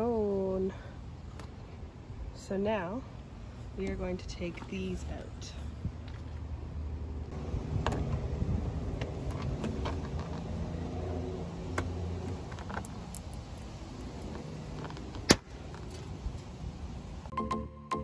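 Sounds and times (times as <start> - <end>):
engine rumble: 0.0 - 17.3.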